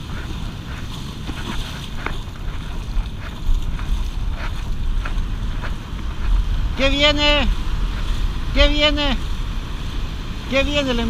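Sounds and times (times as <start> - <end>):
surf washing: 0.0 - 11.0
wind buffeting microphone: 0.0 - 11.0.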